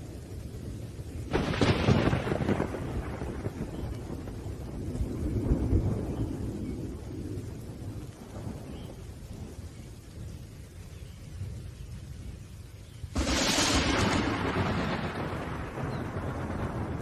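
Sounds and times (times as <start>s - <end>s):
thunder rumbling: 0.0s - 12.4s, 13.0s - 17.0s
rain falling: 0.0s - 17.0s.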